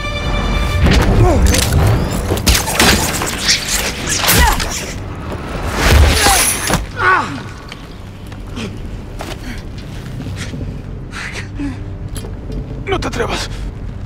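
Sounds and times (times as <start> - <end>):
dramatic orchestral score: 0.0 - 14.0.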